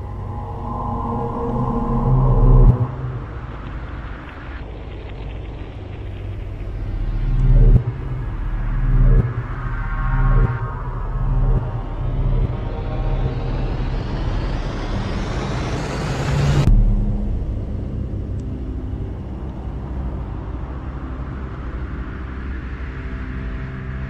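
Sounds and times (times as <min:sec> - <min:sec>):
low drone: 0:00.0 - 0:24.0.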